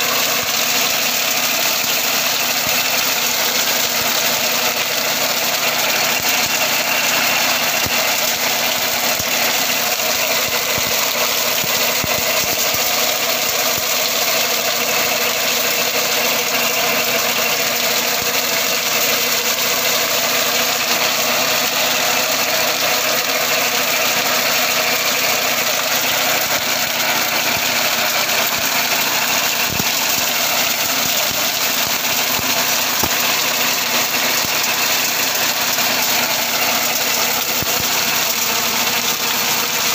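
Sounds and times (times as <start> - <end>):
machine mechanical rattle: 0.0 - 39.9
tractor engine drone: 0.0 - 39.9.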